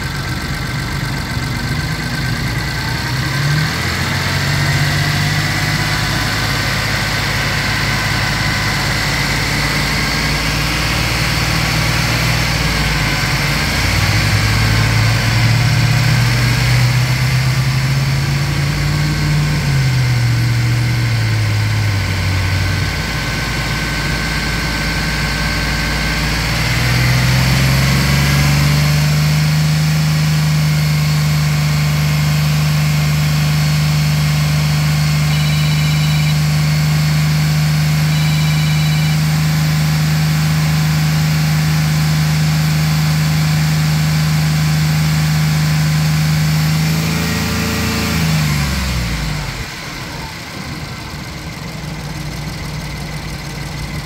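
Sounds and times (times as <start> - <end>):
van engine revving and idling: 0.0 - 54.0.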